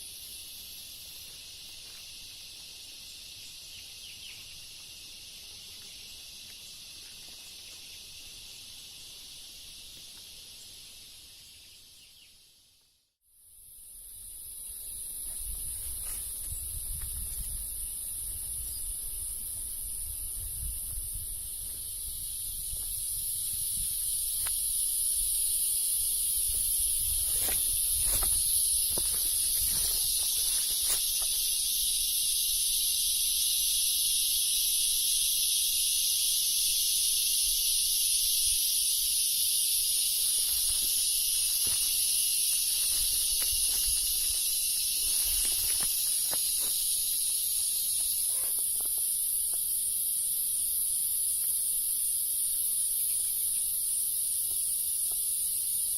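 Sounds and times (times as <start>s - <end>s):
high-pitched insect buzz: 0.0s - 55.9s
lower-pitched insect chorus: 0.0s - 55.9s.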